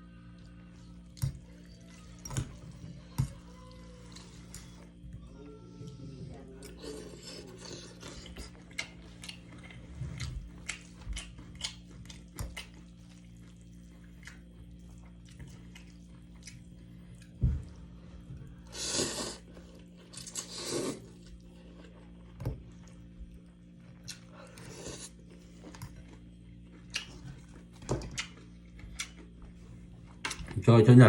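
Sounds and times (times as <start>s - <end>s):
person chewing food: 0.0s - 30.5s
faint steady hum: 0.0s - 31.0s.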